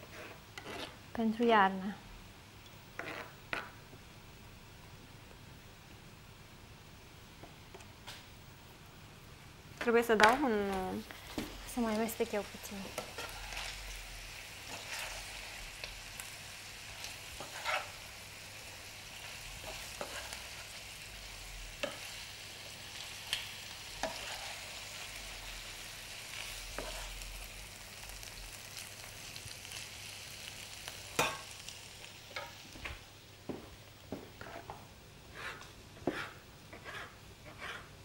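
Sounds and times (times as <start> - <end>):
faint steady hiss: 0.0 - 38.0.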